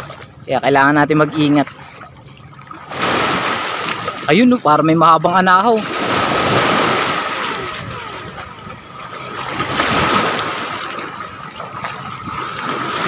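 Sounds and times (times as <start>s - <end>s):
lake waves splashing on shore: 0.0s - 13.0s.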